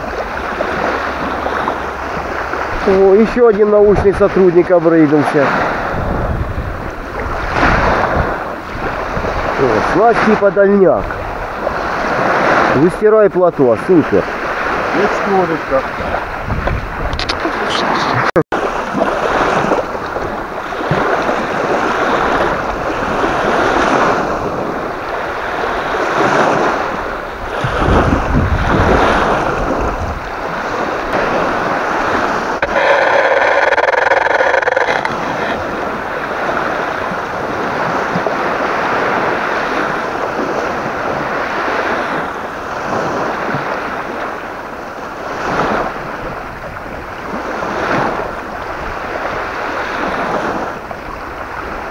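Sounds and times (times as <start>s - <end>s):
waves lapping: 0.0s - 51.9s
gusty wind buffeting microphone: 5.3s - 12.9s, 14.2s - 51.9s.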